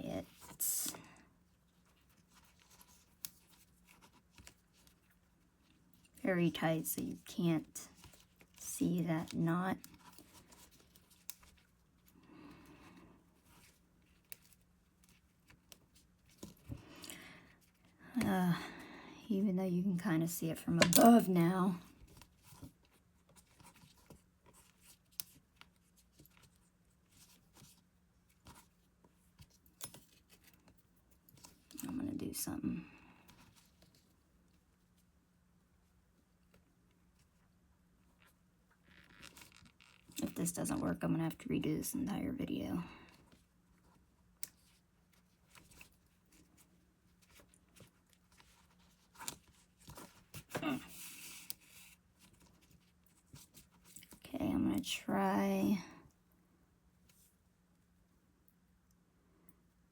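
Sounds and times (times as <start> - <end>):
soft clicks and rustles of yarn: 0.2 - 18.4, 20.2 - 54.9, 55.6 - 59.9.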